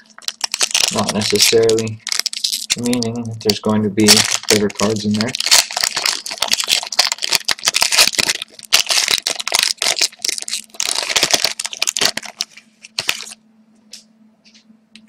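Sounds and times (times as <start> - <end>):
wrapper tearing and crinkling: 0.0 - 13.4.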